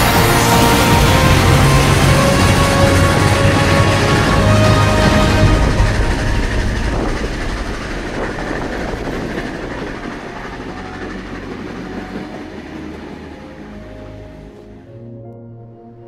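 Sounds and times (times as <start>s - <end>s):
carriage wheels clattering over rails: 0.0s - 14.7s
passenger train rolling along track: 0.0s - 16.0s.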